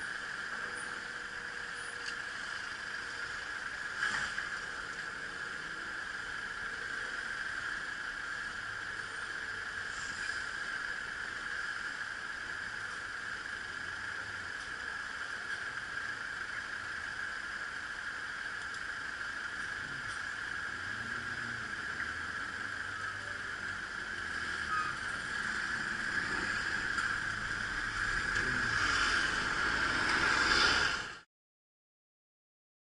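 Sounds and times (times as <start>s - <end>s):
low rumble of engines: 0.0s - 31.2s
road traffic hiss: 0.0s - 31.3s.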